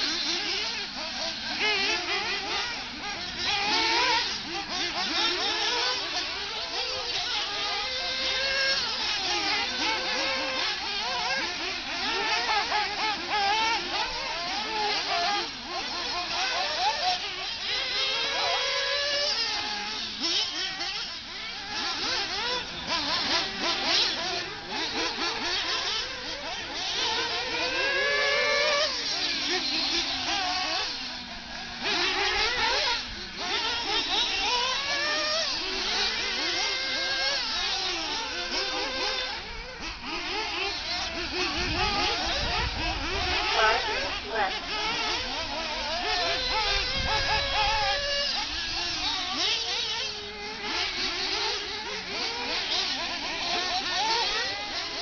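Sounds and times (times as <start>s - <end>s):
rc buggy motors revving: 0.0s - 55.0s.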